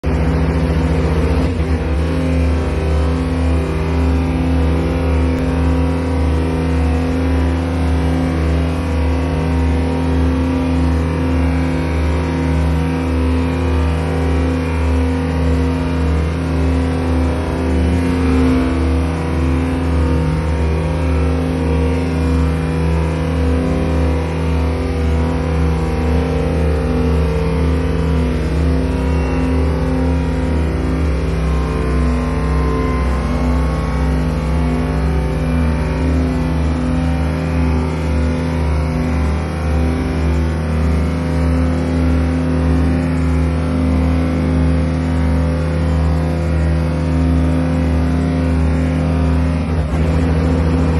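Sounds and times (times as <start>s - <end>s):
heavy diesel engine drone: 0.0s - 50.9s.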